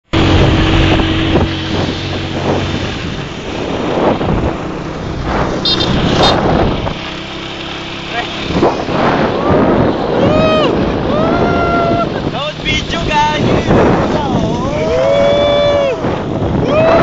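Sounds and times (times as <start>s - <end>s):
motor tricycle engine running: 0.1s - 16.9s
wind buffeting microphone: 0.1s - 17.0s.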